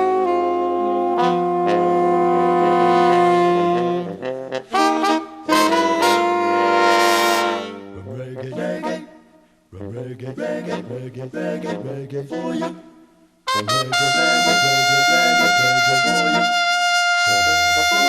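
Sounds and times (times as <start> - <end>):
reggae horn section: 0.0 - 9.1, 9.8 - 18.0.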